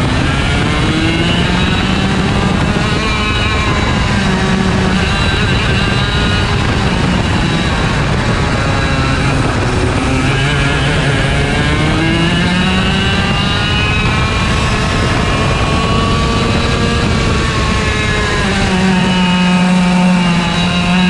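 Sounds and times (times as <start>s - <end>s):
kart engine racing: 0.0s - 21.0s.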